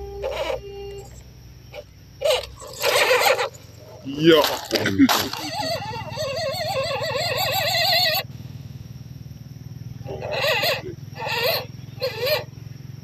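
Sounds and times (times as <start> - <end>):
animal bleating: 0.0 - 8.3, 10.0 - 12.5
steady low hum: 0.0 - 13.0.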